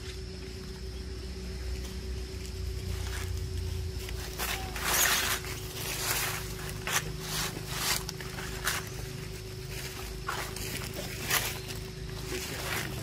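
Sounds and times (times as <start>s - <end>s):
faint constant tone: 0.0s - 13.0s
steady low hum: 0.0s - 13.0s.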